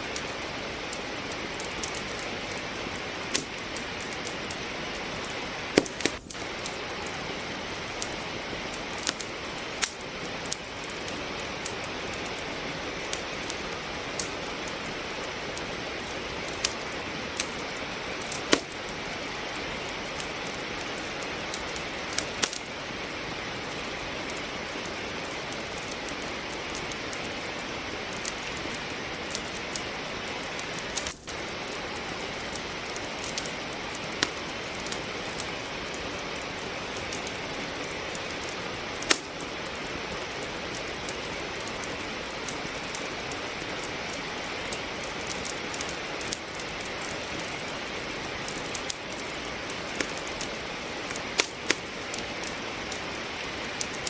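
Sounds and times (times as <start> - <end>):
steady rain hiss: 0.0 - 54.0
wood fire crackling: 0.0 - 54.0.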